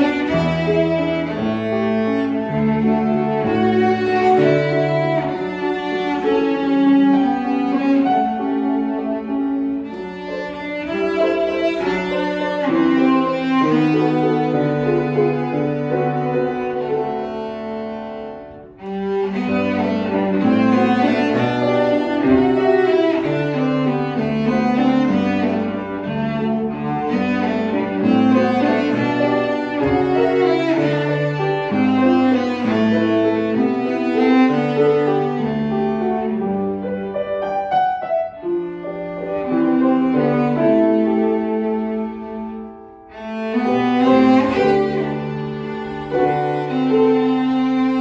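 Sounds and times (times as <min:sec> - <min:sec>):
cello melody: 0:00.0 - 0:48.0
piano accompaniment: 0:00.0 - 0:48.0.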